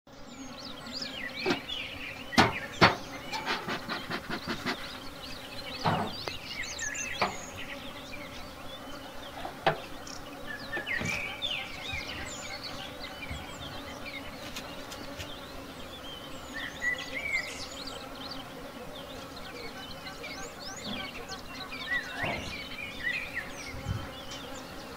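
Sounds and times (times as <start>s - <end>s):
honeybees humming: 0.1s - 24.9s.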